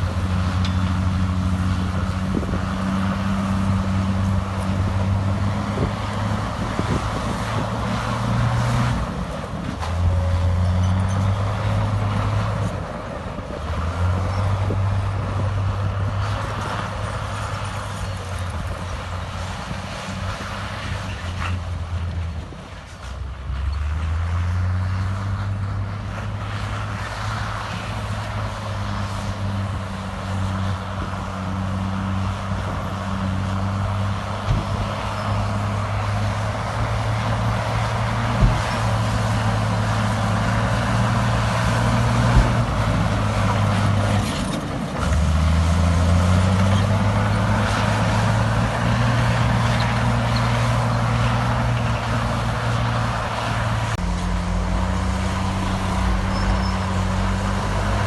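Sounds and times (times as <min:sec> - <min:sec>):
heavy machine diesel engine: 0:00.0 - 0:58.0.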